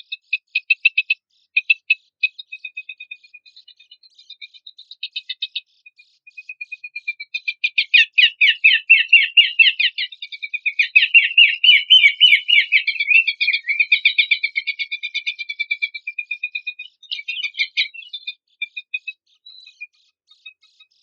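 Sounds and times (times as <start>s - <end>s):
songbird chattering song: 0.0s - 21.0s.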